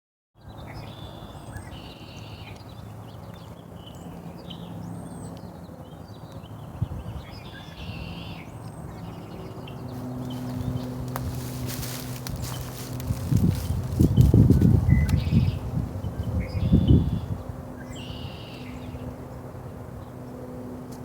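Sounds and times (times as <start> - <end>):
songbird singing: 0.4 - 21.0.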